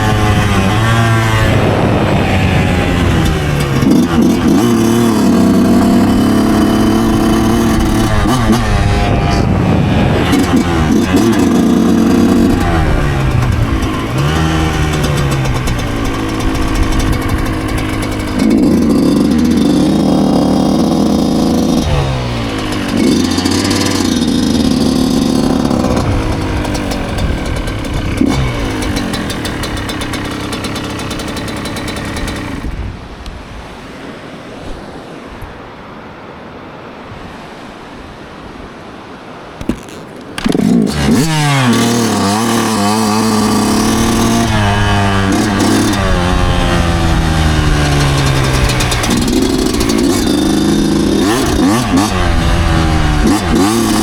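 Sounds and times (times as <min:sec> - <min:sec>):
two-stroke motorcycle engine revving: 0:00.0 - 0:33.2, 0:39.6 - 0:54.0.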